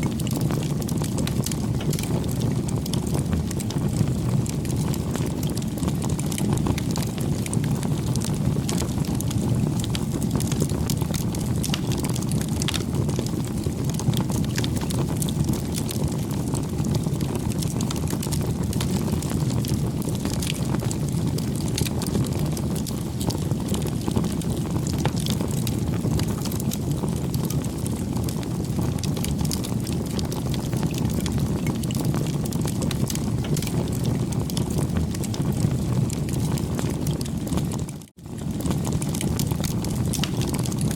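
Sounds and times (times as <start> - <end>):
campfire flames rushing: 0.0 - 40.9
wood crackling and popping: 0.0 - 40.9.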